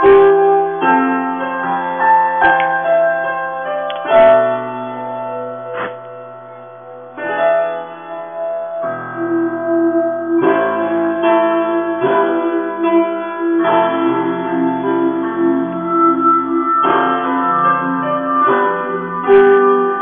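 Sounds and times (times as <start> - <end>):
keyboard chords: 0.0 - 20.0.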